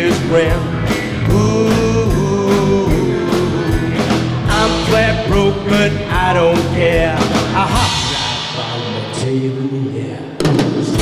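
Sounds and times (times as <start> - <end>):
band playing rockabilly: 0.0 - 11.0
drum kit beat: 0.0 - 11.0.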